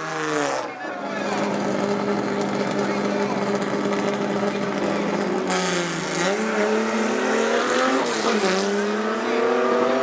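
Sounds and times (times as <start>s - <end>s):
racing car engine accelerating: 0.0s - 10.0s.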